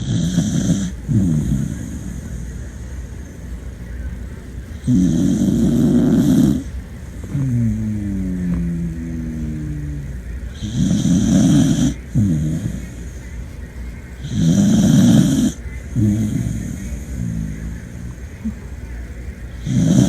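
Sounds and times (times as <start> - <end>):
dog snoring: 0.0 - 2.8, 4.7 - 13.2, 14.2 - 18.6, 19.5 - 20.0.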